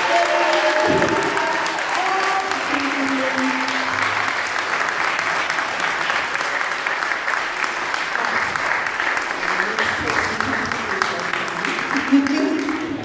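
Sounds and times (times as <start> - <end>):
audience clapping: 0.0 - 13.0.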